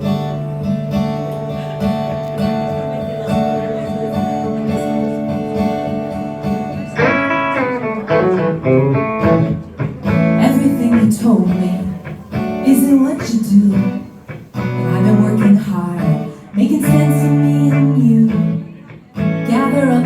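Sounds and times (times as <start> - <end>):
guitar playing chords and notes: 0.0 - 20.0.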